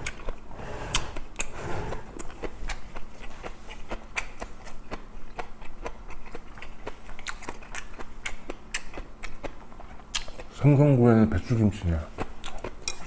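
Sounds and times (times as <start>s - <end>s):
person chewing food: 0.0s - 10.6s, 12.1s - 13.0s.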